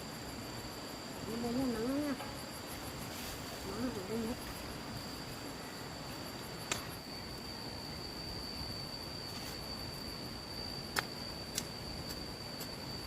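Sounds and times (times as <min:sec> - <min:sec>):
background hiss: 0:00.0 - 0:13.0
insects droning: 0:00.0 - 0:13.0.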